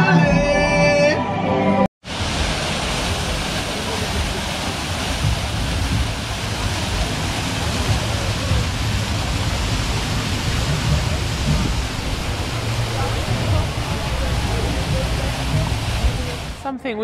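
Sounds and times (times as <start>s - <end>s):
waterfall rushing over rocks: 2.0s - 16.6s.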